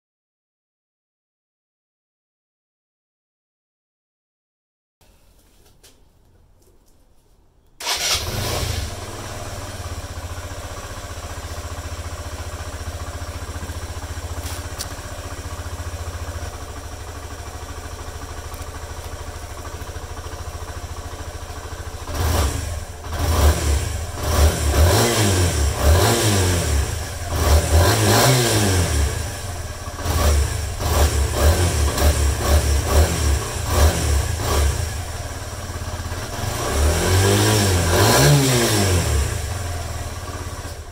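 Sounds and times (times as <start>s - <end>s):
motorcycle engine idling and revving: 7.8s - 40.9s.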